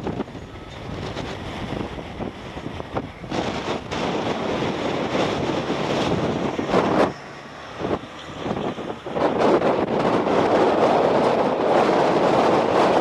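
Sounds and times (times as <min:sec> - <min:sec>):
gusty wind rushing: 0:00.0 - 0:13.0
wind noise on microphone: 0:00.0 - 0:13.0.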